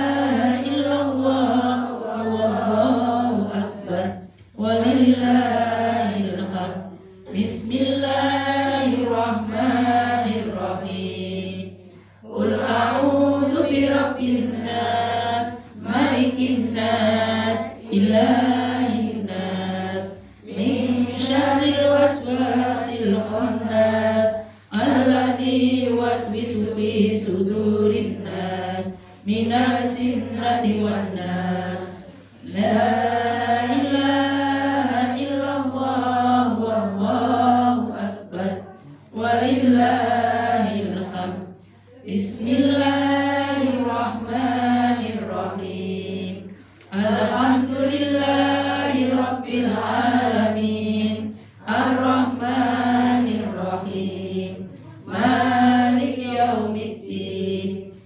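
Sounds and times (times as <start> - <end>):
women chanting together: 0.0 - 58.0.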